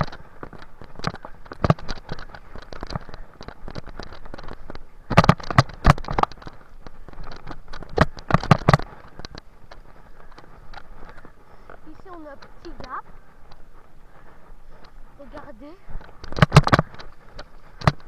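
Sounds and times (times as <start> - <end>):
mountain bike rattling over dirt trail: 0.0 - 18.0.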